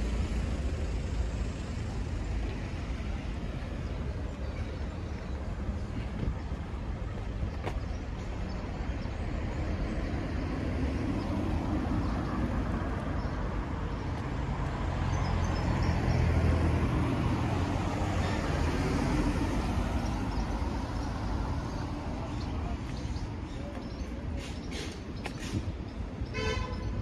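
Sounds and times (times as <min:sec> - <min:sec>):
cars driving along road: 0:00.0 - 0:27.0.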